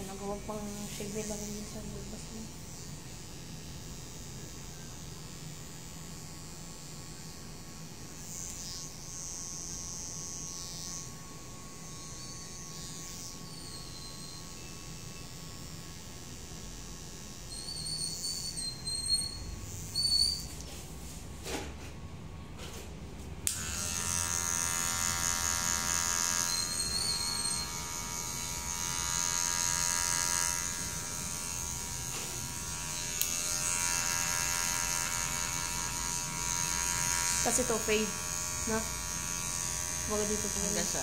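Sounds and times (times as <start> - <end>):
electric hair clipper humming: 0.0 - 20.6, 23.4 - 41.0.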